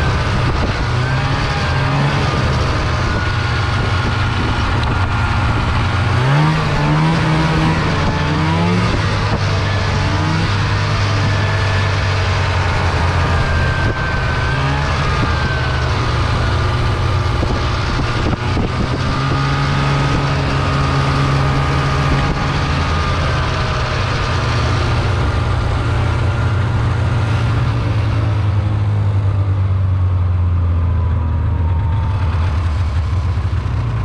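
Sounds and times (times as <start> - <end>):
high engine whine: 0.0 - 34.0
snowmobile engine running: 0.0 - 34.0.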